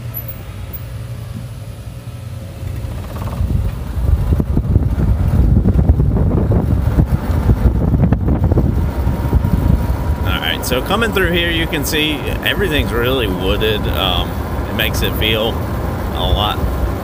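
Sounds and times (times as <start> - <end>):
golf cart riding: 0.0 - 17.0
wind buffeting microphone: 2.6 - 17.0.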